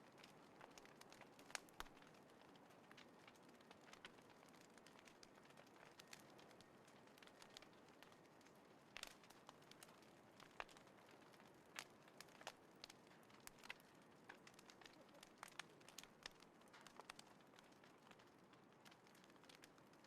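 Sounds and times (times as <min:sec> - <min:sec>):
campfire crackling: 0:00.0 - 0:20.0
low steady hiss: 0:00.0 - 0:20.0.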